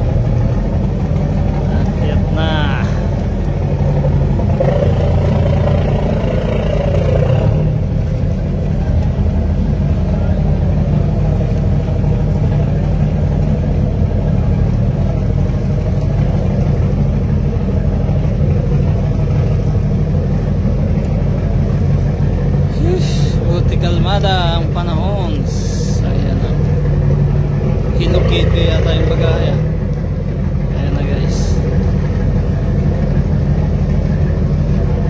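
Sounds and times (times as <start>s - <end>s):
diesel engines droning: 0.0s - 35.0s.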